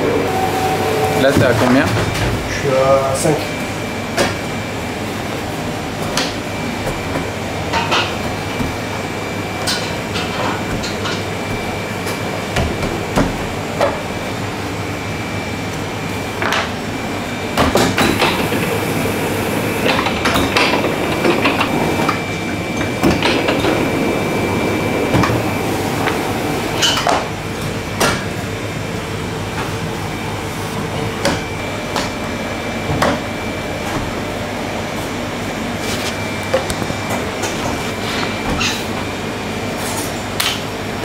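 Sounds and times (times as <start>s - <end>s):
dough sheeter humming and whining: 0.0s - 41.0s.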